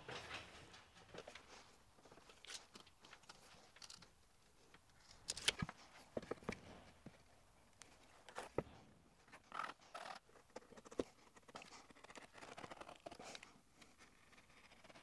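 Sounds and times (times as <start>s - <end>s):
soft rustles: 0.0s - 15.0s.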